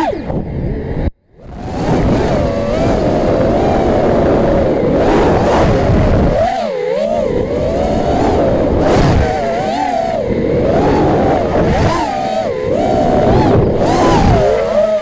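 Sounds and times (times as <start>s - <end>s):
electric motor whine: 0.0s - 15.0s
wind noise: 0.0s - 15.0s.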